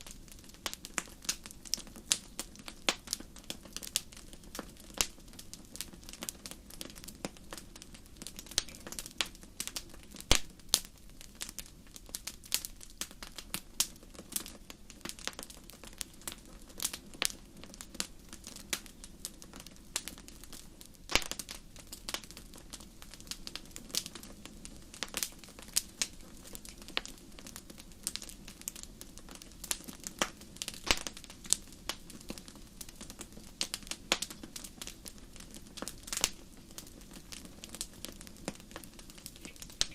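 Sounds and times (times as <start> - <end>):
soft rumble of flames: 0.0 - 39.9
wood fire crackling: 0.0 - 39.9.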